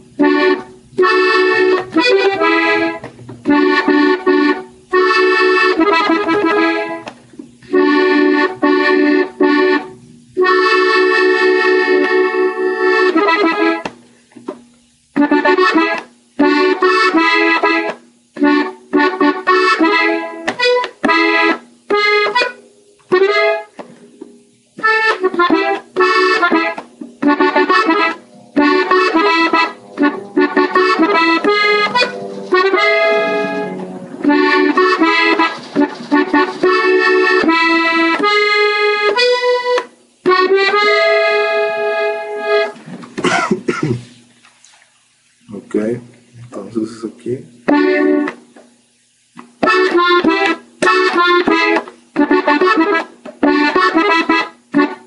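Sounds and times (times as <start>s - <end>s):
button accordion melody: 0.0s - 13.9s, 15.1s - 24.2s, 24.8s - 43.5s, 47.7s - 48.4s, 49.6s - 55.0s.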